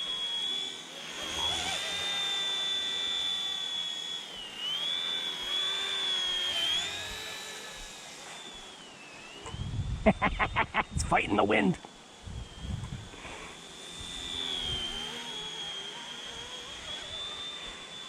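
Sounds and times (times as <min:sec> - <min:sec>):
rc helicopter motor whine: 0:00.0 - 0:18.0.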